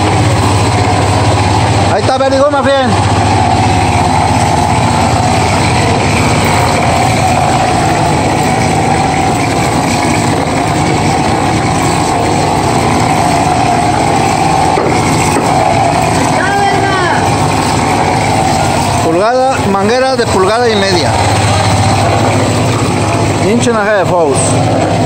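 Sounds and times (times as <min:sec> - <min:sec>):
pump running: 0:00.0 - 0:25.0.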